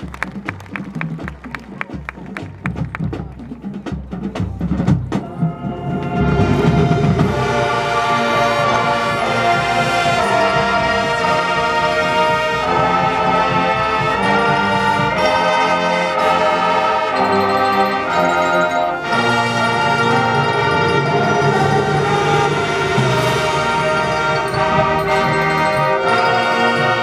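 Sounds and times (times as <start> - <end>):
marching band brass chords: 0.0 - 27.0.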